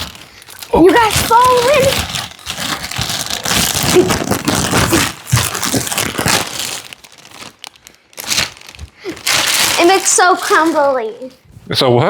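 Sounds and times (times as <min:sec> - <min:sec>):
crinkling and crumpling: 0:00.0 - 0:11.3.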